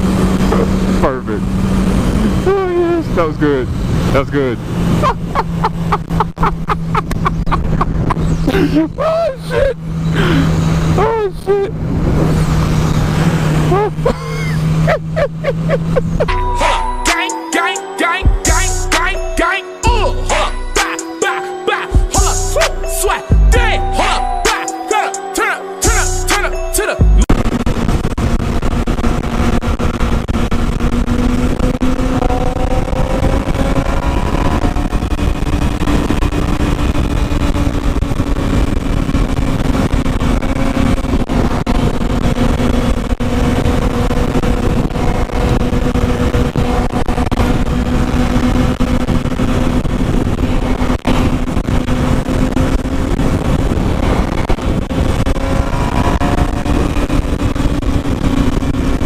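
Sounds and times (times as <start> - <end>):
wind rumble: 0.0 - 16.4, 27.2 - 59.0
motorcycle engine cruising: 0.0 - 59.0.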